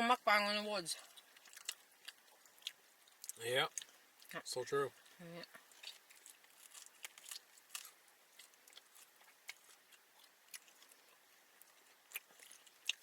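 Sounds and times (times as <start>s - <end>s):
chewing mouth clicks and smacks: 1.0s - 4.4s, 5.5s - 13.0s.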